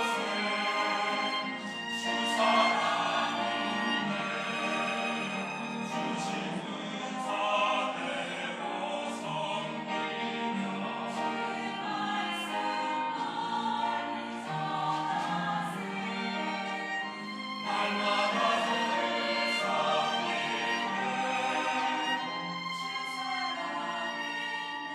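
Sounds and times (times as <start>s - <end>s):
church choir singing: 0.0s - 24.9s.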